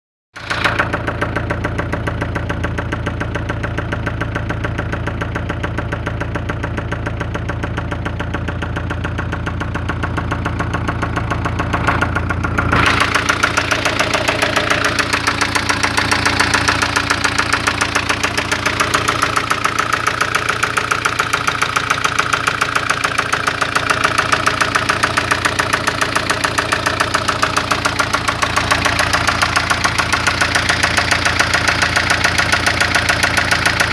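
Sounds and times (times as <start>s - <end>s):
car engine idling with knocking: 0.4s - 33.9s.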